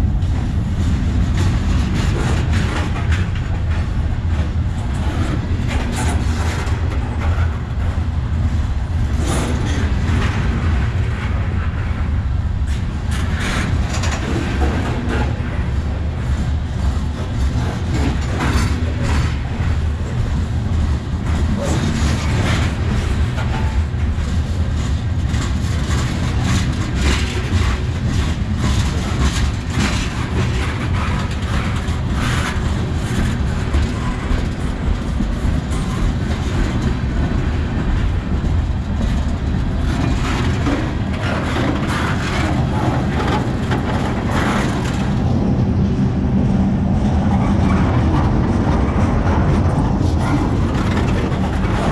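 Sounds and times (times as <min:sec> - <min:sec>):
train cars clanking: 0:00.0 - 0:51.9
train wheels rumbling on rails: 0:00.0 - 0:51.9.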